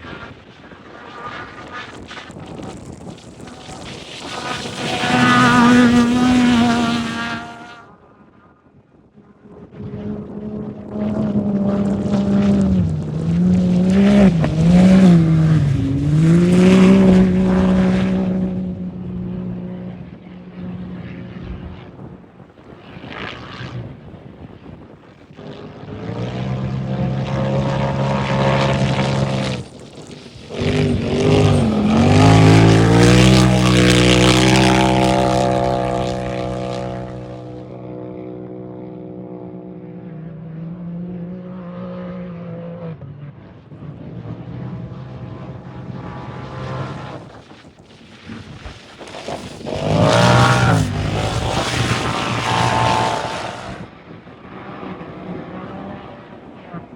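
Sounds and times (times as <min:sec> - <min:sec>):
racing engines revving past: 0:02.8 - 0:08.0, 0:09.6 - 0:22.0, 0:25.4 - 0:47.4, 0:49.0 - 0:56.9.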